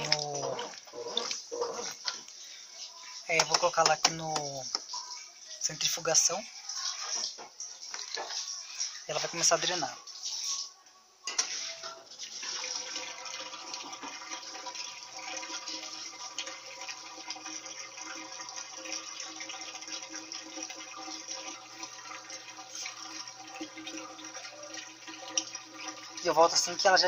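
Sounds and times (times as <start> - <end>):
washing machine draining water: 0.0 - 10.2, 11.4 - 27.0.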